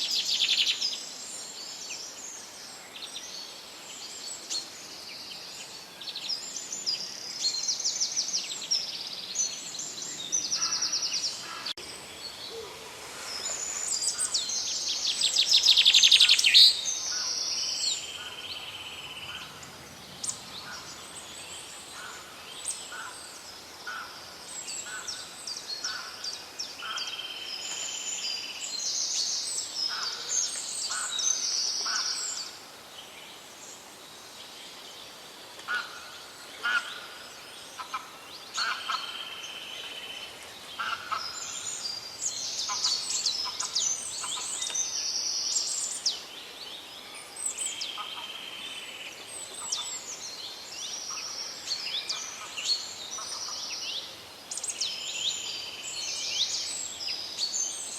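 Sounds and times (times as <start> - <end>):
soft steady hiss: 0.0 - 57.9
songbirds chirping: 0.0 - 57.9.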